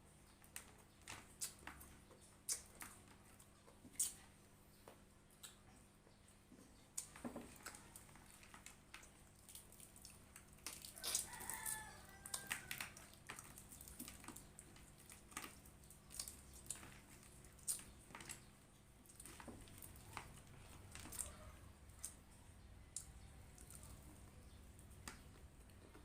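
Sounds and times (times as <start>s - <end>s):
chewing food close up: 0.2s - 26.0s.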